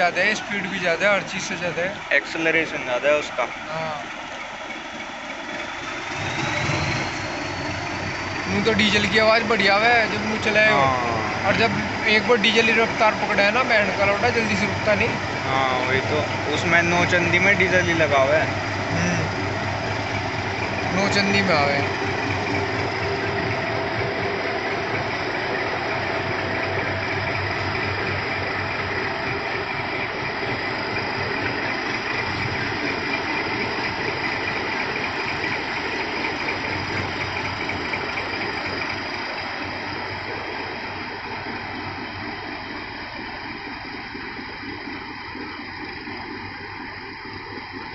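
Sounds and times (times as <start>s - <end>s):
train engine and running noise: 0.0s - 47.9s.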